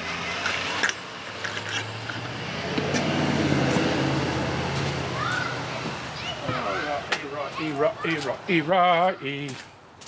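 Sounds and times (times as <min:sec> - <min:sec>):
vehicle engine humming: 0:00.0 - 0:08.7.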